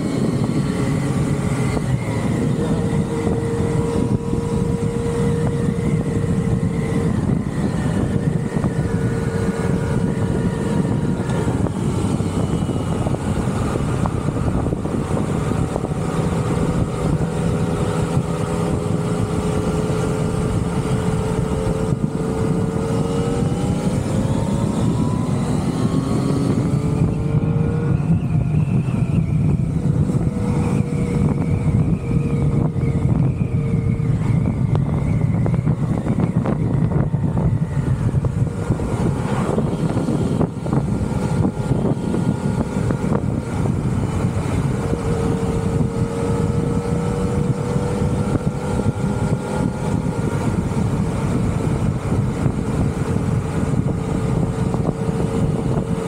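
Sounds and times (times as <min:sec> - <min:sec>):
vehicle engine running: 0:00.0 - 0:56.0
wind and road rush: 0:00.0 - 0:56.0.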